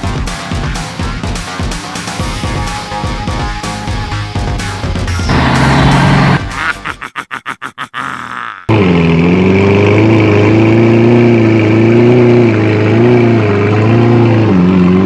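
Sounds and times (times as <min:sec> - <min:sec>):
vehicle engine starting and running: 0:00.0 - 0:06.9, 0:08.7 - 0:15.0.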